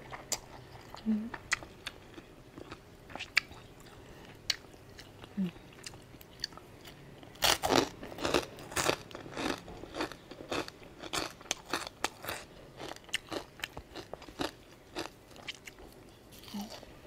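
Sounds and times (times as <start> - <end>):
mouth chewing crunchy food: 0.0 - 16.9.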